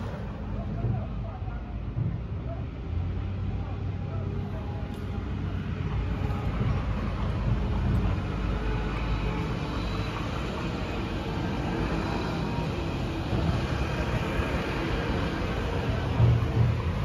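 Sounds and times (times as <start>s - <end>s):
heavy vehicle engine rumble: 0.0s - 17.0s.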